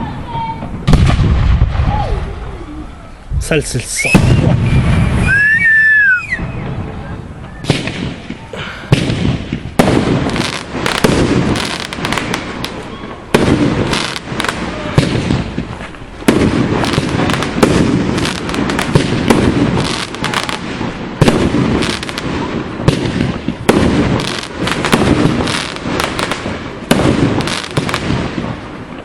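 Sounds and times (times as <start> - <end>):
booming rumble: 0.0 - 24.2
fireworks bangs and crackles: 0.0 - 29.0.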